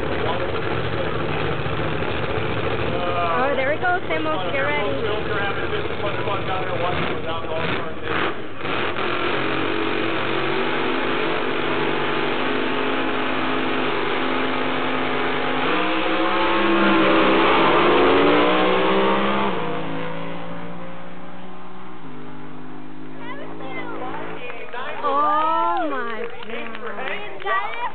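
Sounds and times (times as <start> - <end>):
drag racing car engines: 0.0 - 27.9.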